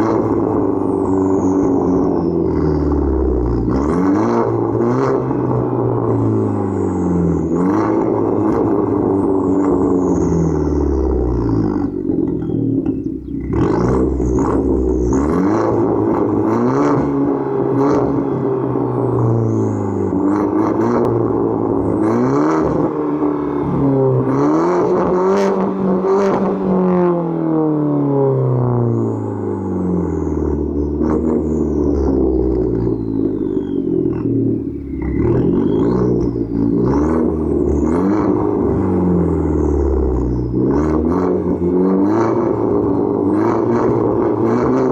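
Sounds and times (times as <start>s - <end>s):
car exhaust revving: 0.0s - 44.9s.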